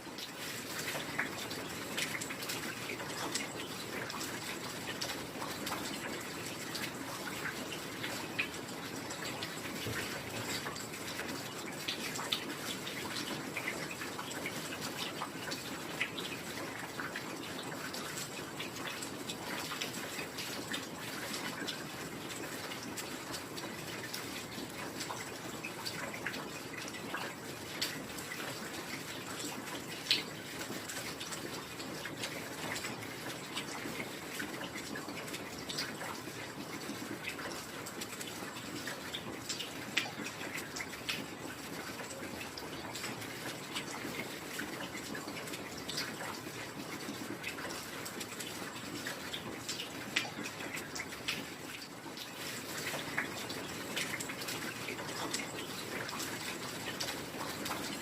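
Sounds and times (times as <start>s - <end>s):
close drips and patters: 0.0s - 58.0s
heavy rain: 0.0s - 58.0s.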